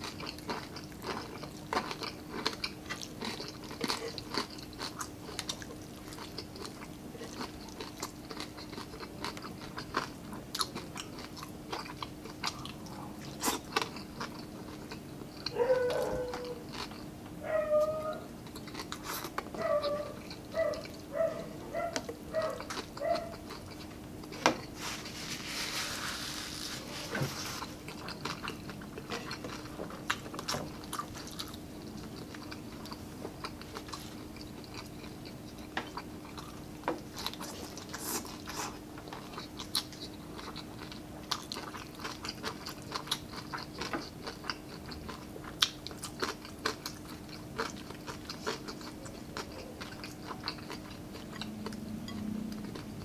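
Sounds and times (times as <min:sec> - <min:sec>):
chewing and crunching food: 0:00.0 - 0:53.0
faint steady hum: 0:00.0 - 0:53.0.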